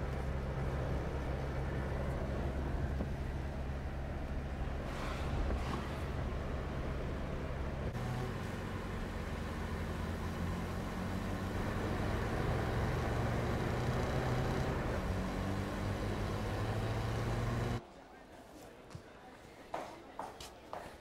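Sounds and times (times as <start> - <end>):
small car engine running: 0.0 - 17.8
road noise: 0.0 - 21.0.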